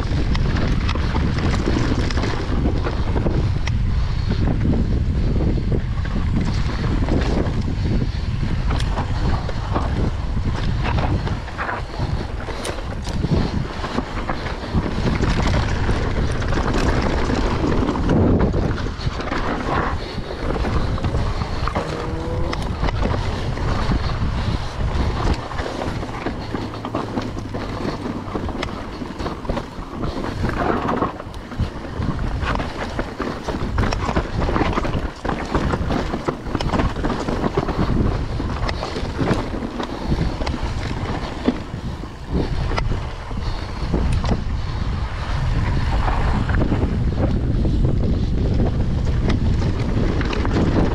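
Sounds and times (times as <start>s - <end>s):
bike knocks and rattles: 0.0s - 50.9s
bike tyres rumbling on rocky trail: 0.0s - 50.9s
wind buffeting microphone: 0.0s - 50.9s.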